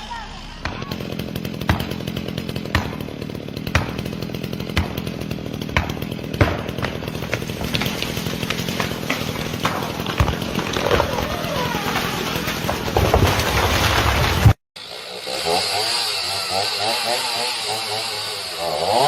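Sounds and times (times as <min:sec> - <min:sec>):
chainsaw running: 0:00.0 - 0:19.0.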